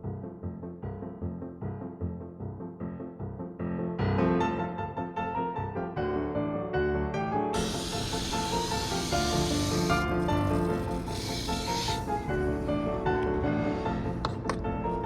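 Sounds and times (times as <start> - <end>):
piano chords music: 0.0 - 15.0.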